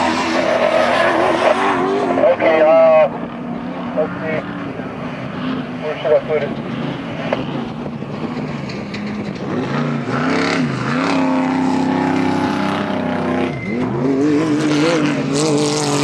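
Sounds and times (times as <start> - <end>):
race vehicle engine running hard: 0.0 - 16.0.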